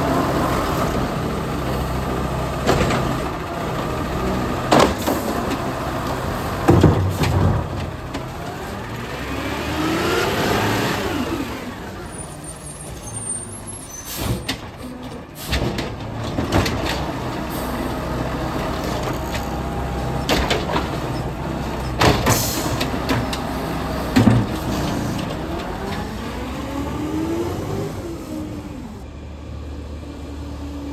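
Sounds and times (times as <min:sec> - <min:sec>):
garbage truck engine running: 0:00.0 - 0:30.9.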